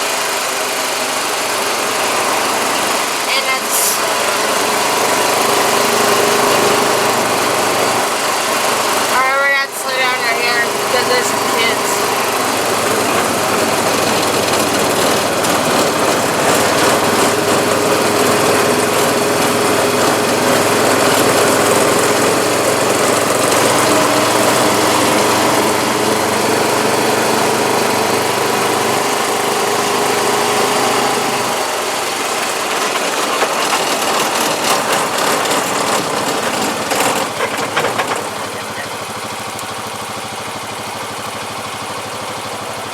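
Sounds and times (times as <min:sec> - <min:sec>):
atv engine running: 0:00.0 - 0:42.9.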